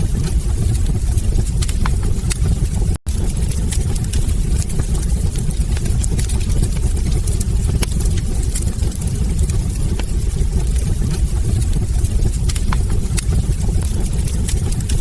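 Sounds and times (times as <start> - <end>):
burning logs crackling and popping: 0.0 - 15.0
low rumble of flames: 0.0 - 15.0.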